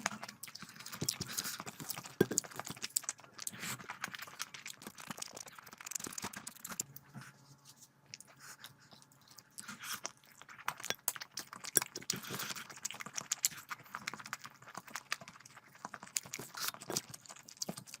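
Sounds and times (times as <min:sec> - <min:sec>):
wet chewing with mouth clicks: 0:00.0 - 0:18.0.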